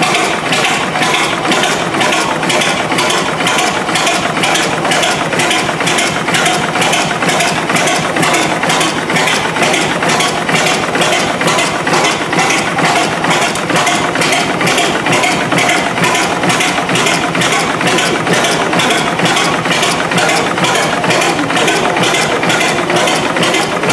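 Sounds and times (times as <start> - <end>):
gas engine rhythmic clatter: 0.0 - 23.9.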